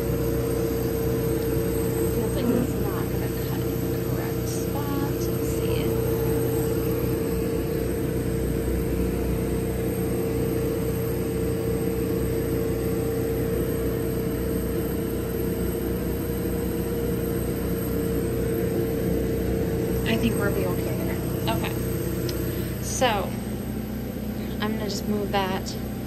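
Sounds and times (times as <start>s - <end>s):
high-pitched whine: 0.0s - 26.0s
laser cutter humming: 0.0s - 26.0s.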